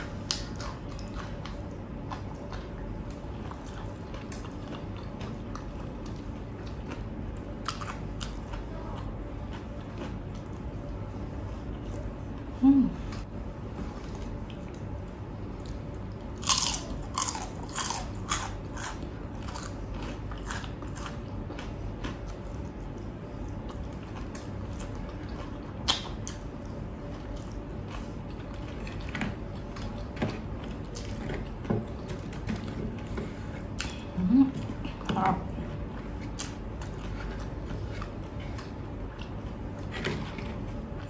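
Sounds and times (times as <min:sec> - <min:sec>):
crunchy food chewing: 0:00.0 - 0:11.0, 0:14.0 - 0:41.0.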